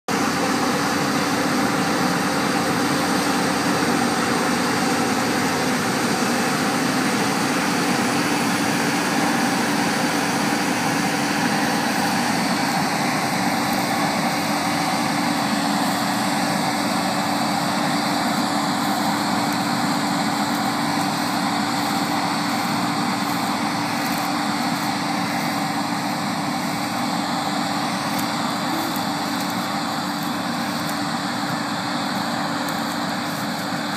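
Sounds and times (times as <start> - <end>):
combine harvester engine droning: 0.1 - 33.9.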